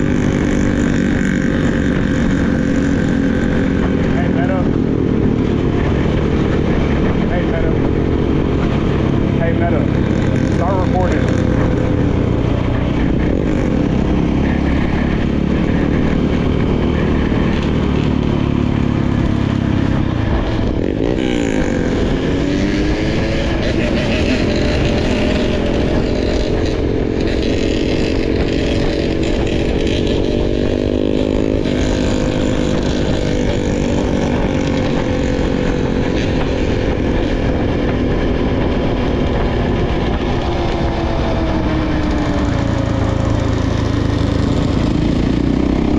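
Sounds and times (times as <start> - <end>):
dirt bike engine running: 0.0 - 45.9.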